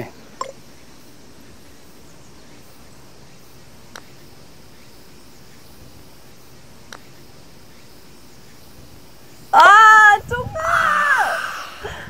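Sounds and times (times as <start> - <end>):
outdoor background hush: 0.0 - 12.0.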